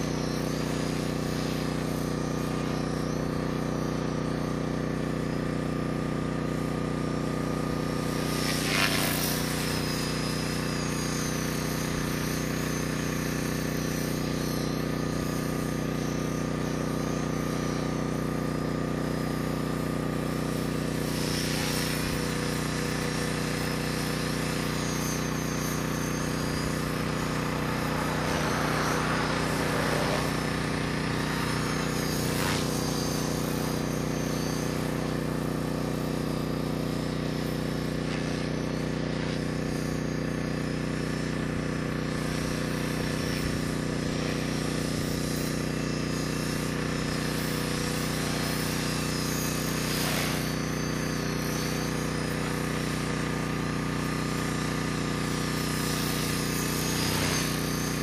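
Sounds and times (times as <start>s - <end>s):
rc helicopter rotor drone: 0.0s - 58.0s.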